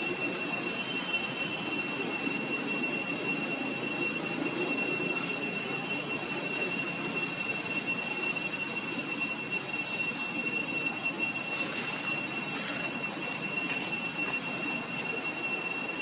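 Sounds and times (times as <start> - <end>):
night insects droning: 0.0 - 16.0.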